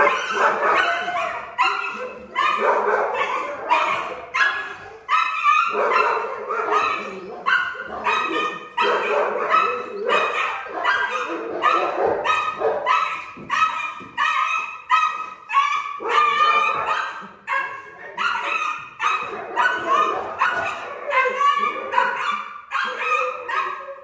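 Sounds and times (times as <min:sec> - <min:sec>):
dog barking: 0:00.0 - 0:24.0.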